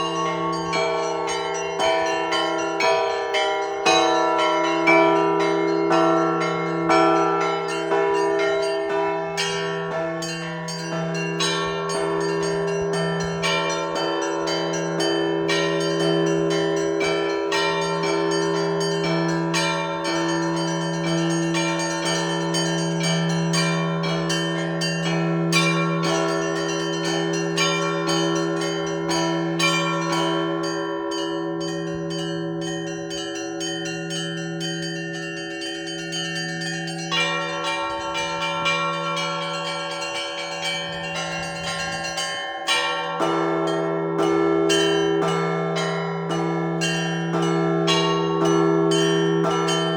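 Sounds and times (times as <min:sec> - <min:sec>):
large bells humming: 0:00.0 - 0:49.9
small bells striking: 0:00.0 - 0:49.9.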